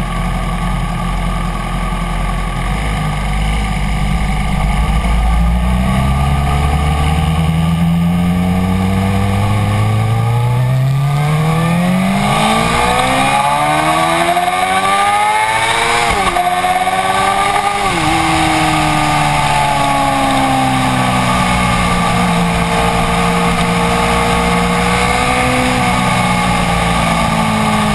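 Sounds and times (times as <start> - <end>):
motorcycle accelerating: 0.0 - 27.9
wind rushing over microphone: 3.1 - 27.9.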